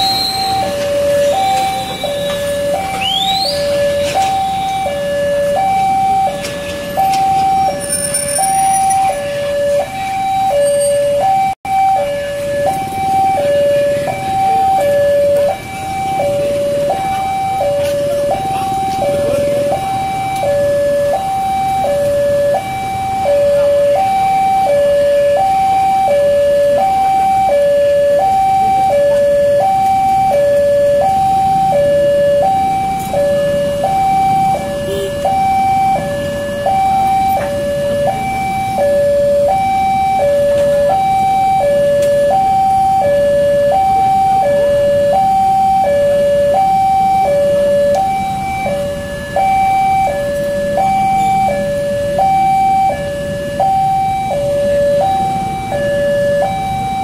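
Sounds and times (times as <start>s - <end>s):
two-tone crossing alarm: 0.0s - 57.0s.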